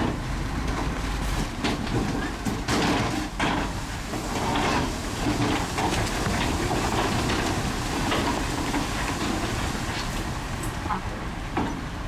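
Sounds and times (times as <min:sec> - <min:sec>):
steel tracks rattling on stone: 0:00.0 - 0:12.0.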